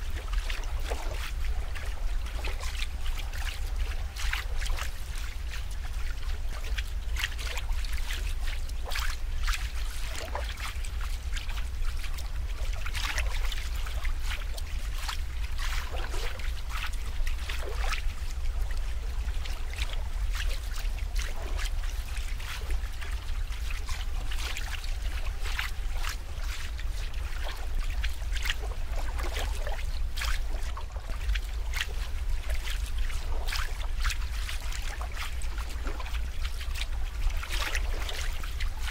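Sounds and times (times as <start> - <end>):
steady low hum: 0.0 - 38.9
water trickling and splashing: 0.0 - 38.9.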